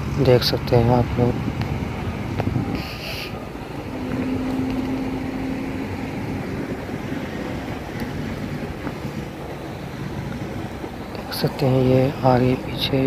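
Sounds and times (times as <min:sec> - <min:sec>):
engine rumble: 0:00.0 - 0:13.0
wind on microphone: 0:01.0 - 0:13.0.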